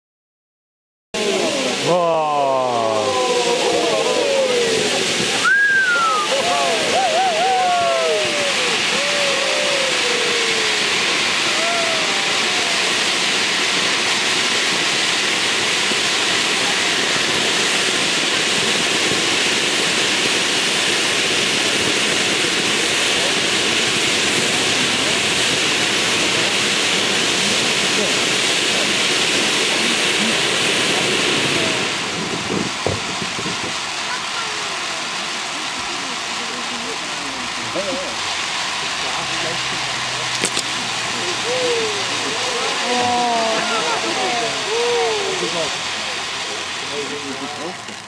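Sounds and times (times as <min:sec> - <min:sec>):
firework fountains hissing: 0:01.2 - 0:48.0.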